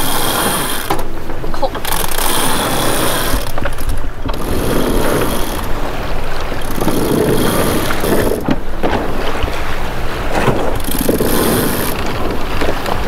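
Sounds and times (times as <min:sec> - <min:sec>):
water rushing along boat hull: 0:00.0 - 0:13.0
wind buffeting microphone: 0:00.0 - 0:13.0.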